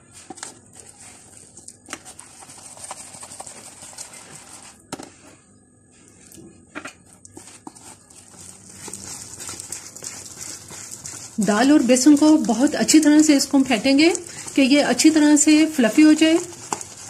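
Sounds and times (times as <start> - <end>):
whisk beating batter in tub: 0.0 - 4.8, 7.2 - 17.0.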